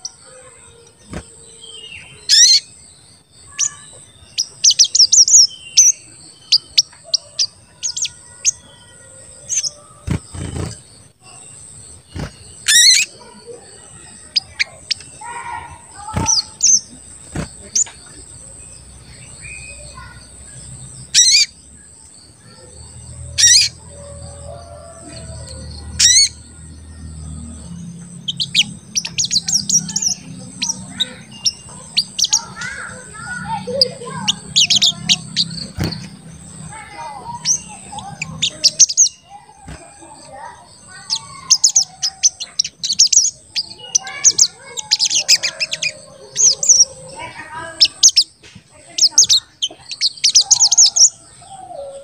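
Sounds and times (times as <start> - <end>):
sunbird chirps and trills: 0.0 - 52.0.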